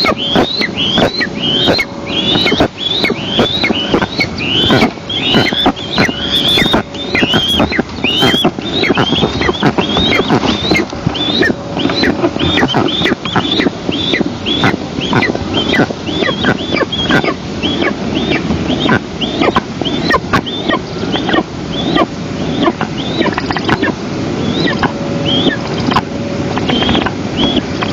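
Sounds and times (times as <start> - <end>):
eagles calling: 0.0 - 27.9
steady background noise: 0.0 - 27.9.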